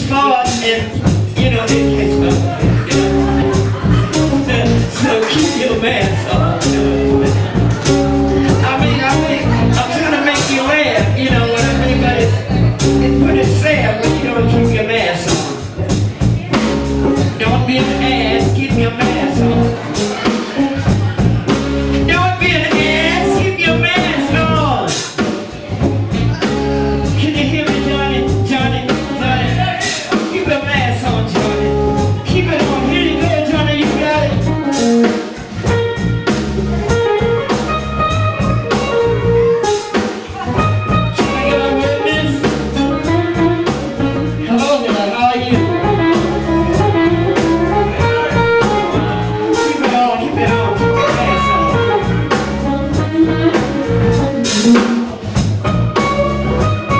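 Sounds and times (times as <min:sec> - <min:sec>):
drum kit: 0:00.0 - 0:56.9
electric bass: 0:00.0 - 0:56.9
guitar: 0:00.0 - 0:56.9.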